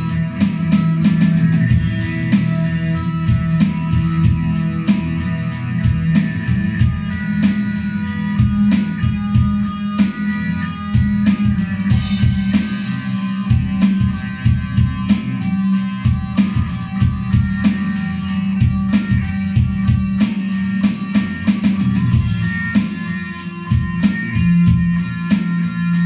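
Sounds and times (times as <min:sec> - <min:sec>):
drum beat: 0:00.0 - 0:26.0
electric guitar: 0:00.0 - 0:26.0.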